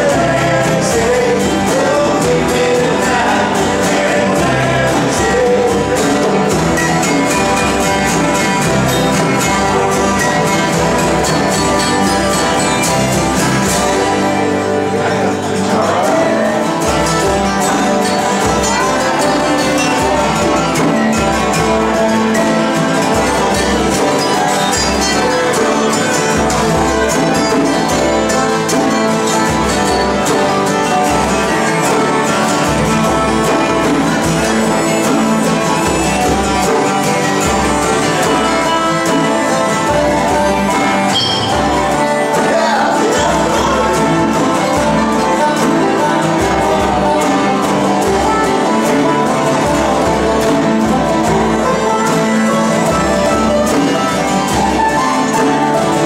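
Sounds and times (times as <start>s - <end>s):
acoustic guitars strumming: 0.0s - 56.0s
man singing: 0.0s - 56.0s
resonator guitar: 0.0s - 56.0s.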